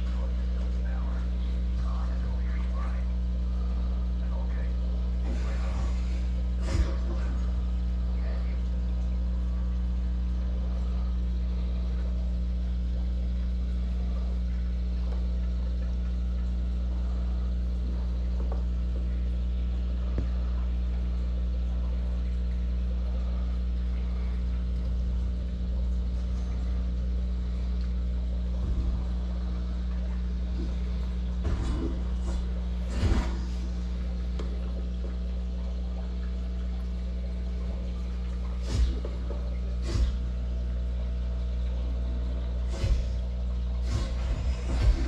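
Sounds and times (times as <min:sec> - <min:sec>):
aquarium pump and filter hum: 0:00.0 - 0:45.0.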